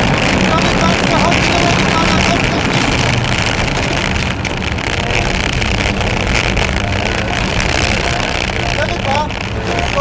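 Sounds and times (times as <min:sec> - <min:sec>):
car engine running hard: 0:00.0 - 0:10.0
road noise: 0:00.0 - 0:10.0
wind noise: 0:00.0 - 0:10.0.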